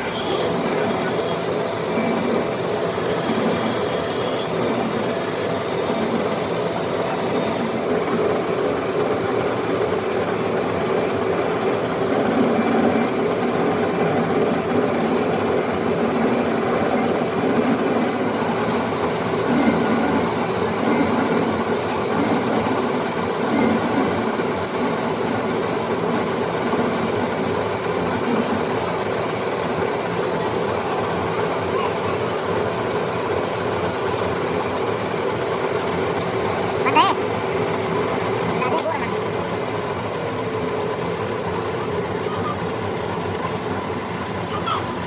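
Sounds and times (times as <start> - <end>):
metal lathe humming: 0.0 - 45.0.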